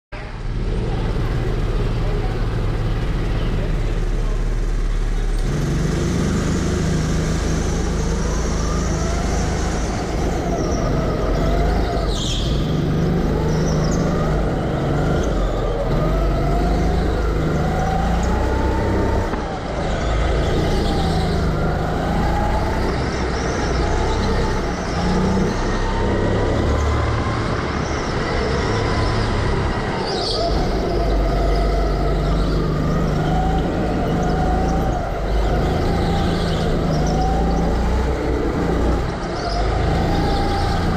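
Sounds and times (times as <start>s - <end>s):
go-kart motor revving: 0.3s - 40.9s.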